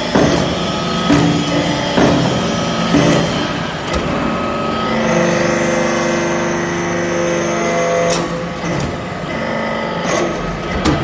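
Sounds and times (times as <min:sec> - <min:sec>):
hydraulic pump humming: 0:00.0 - 0:11.0.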